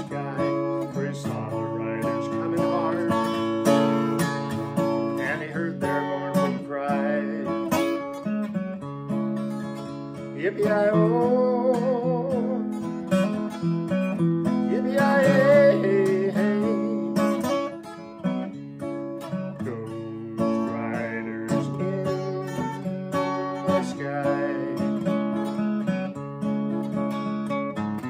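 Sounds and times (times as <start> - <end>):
man singing: 0.0 - 8.2, 10.1 - 18.6, 19.2 - 25.8
acoustic guitar strumming: 0.0 - 28.0.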